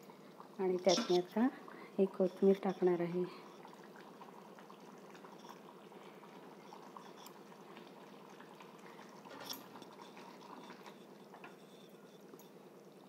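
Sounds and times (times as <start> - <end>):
curry bubbling in saucepan: 0.0 - 13.0.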